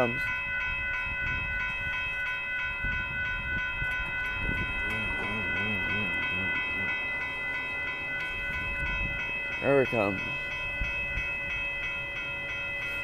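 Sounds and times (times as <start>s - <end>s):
crossing warning bell dinging: 0.0s - 13.0s
low wavering sound: 0.6s - 13.0s.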